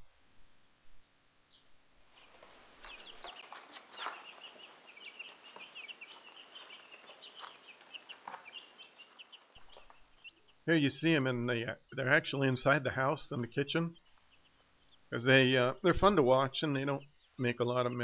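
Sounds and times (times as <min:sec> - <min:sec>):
chicks peeping: 0:02.1 - 0:18.0.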